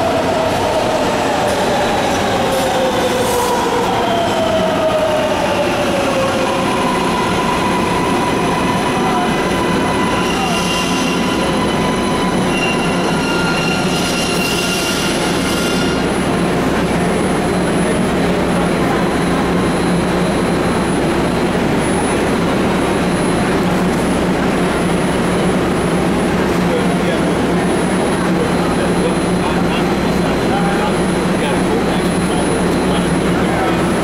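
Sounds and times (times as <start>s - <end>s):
train running noise: 0.0s - 34.0s.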